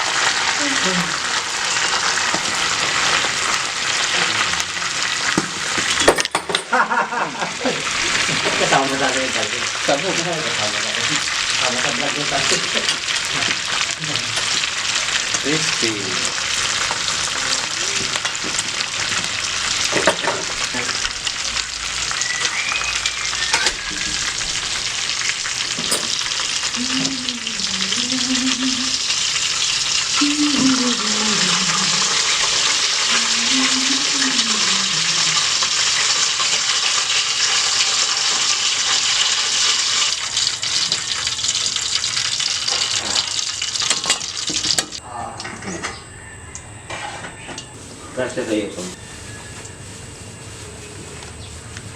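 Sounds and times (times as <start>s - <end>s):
meat frying in hot oil: 0.0s - 45.0s.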